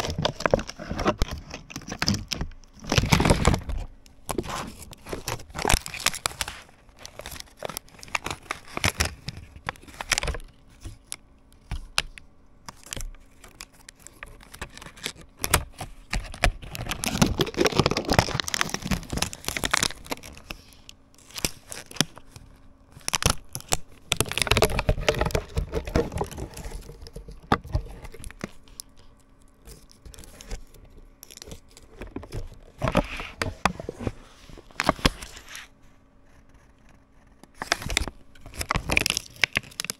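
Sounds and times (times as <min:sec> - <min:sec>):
plastic sheets crinkling and tearing: 0:00.0 - 0:39.9.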